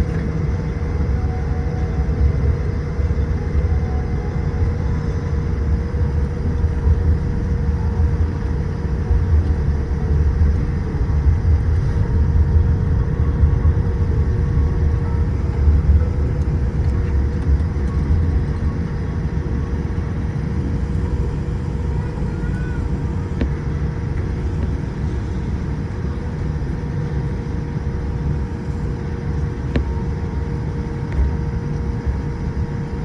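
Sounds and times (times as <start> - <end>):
aircraft cabin rumble: 0.0 - 33.0
faint steady engine tones: 0.0 - 33.0.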